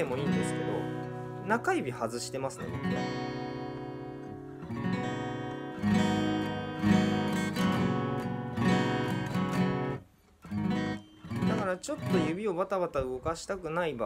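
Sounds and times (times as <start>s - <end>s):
acoustic guitar strumming chords: 0.0s - 12.5s.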